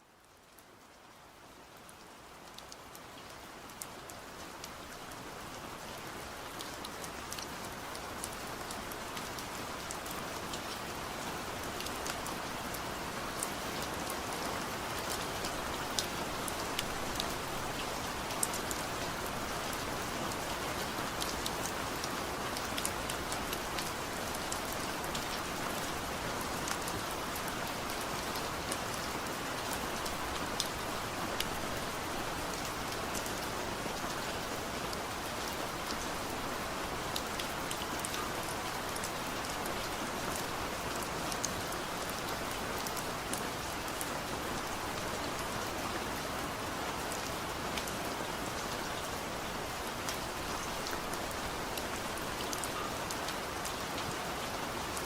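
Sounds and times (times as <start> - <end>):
heavy rain falling: 2.1 - 55.0.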